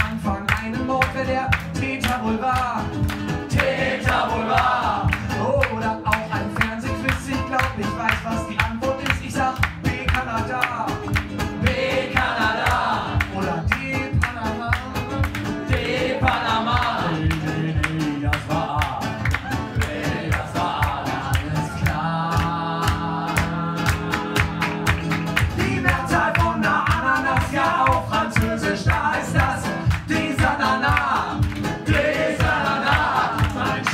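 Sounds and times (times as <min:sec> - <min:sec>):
acoustic guitars strummed fast: 0:00.0 - 0:33.9
men singing: 0:00.0 - 0:33.9.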